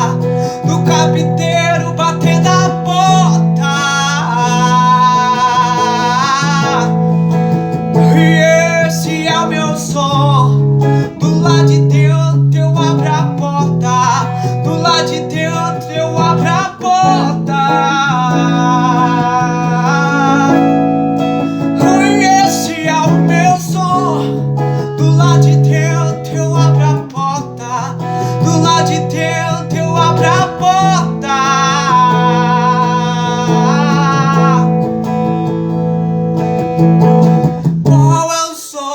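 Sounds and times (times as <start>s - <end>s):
man singing with vibrato: 0.0s - 36.1s, 37.1s - 38.9s
strummed guitar: 0.0s - 38.8s.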